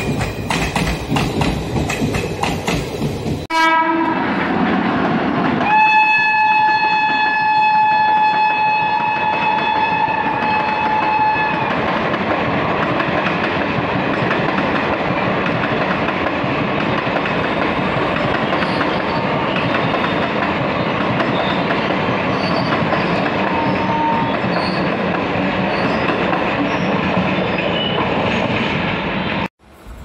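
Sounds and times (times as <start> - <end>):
train wheels clattering on rails: 0.0 - 3.5, 4.5 - 30.0.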